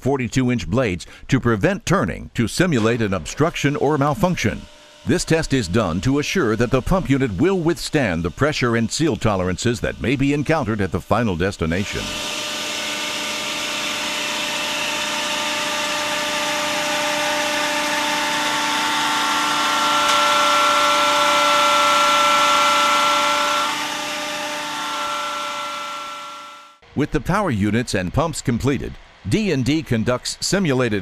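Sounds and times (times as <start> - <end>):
high hydraulic whine: 2.6 - 31.0.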